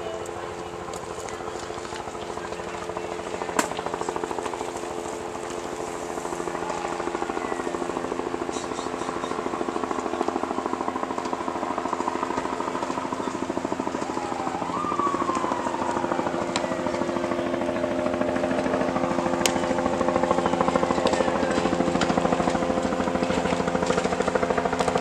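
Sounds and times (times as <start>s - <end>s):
machine pulsing: 0.0s - 25.0s
steady low hums: 0.0s - 25.0s.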